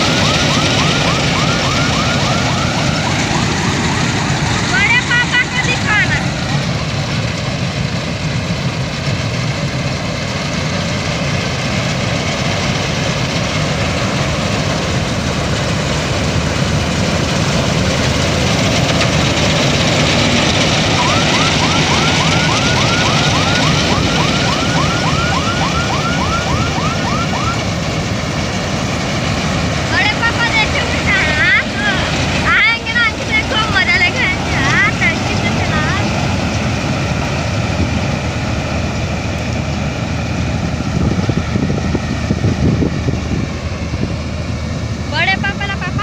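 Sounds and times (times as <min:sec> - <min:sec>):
combine harvester running: 0:00.0 - 0:46.0.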